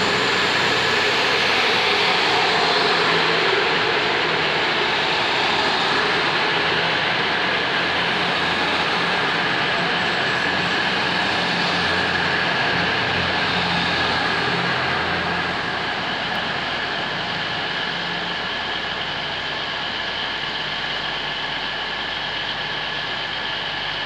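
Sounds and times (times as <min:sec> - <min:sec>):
diesel train engines humming: 0:00.0 - 0:24.0
train rumble and whine: 0:00.0 - 0:24.0.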